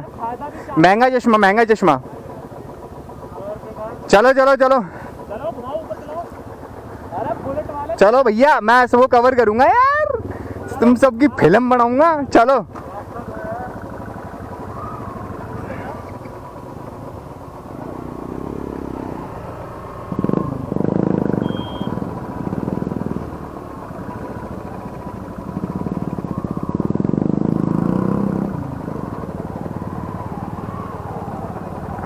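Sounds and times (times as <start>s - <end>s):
motorcycle engine revving: 1.2s - 32.0s.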